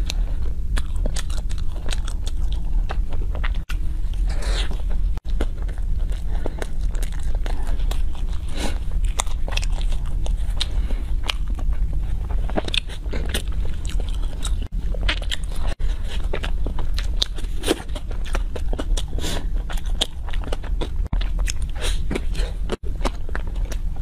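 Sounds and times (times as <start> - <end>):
chewing and smacking: 0.0 - 24.0
steady low hum: 0.0 - 24.0.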